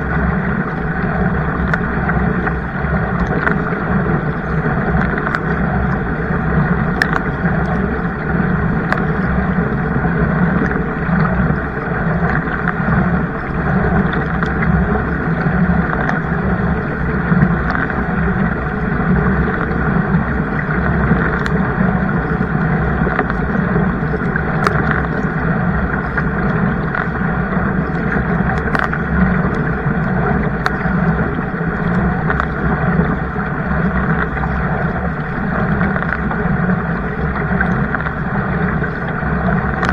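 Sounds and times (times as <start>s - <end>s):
faint clicks: 0.0s - 39.9s
water rushing: 0.0s - 39.9s
wind on microphone: 0.0s - 39.9s.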